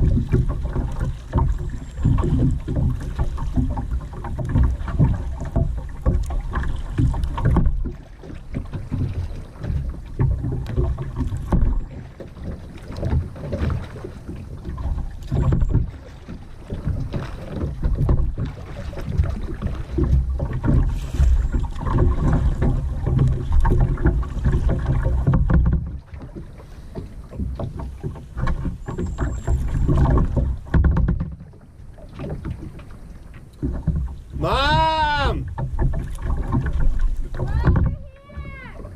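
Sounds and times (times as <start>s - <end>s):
paddle splashing in water: 0.0s - 38.9s.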